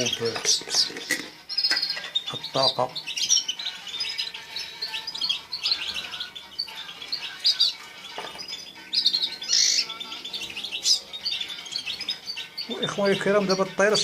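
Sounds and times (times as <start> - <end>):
finches chirping and twittering: 0.0 - 14.0.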